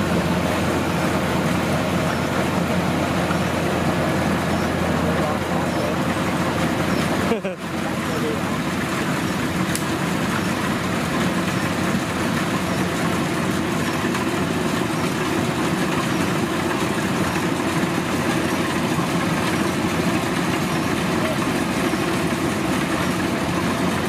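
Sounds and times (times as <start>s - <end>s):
combine harvester droning: 0.0s - 24.0s.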